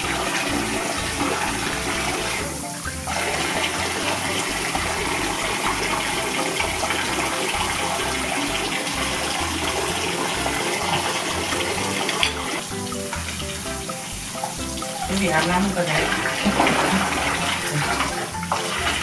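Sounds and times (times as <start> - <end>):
water pouring into bath: 0.0 - 19.0.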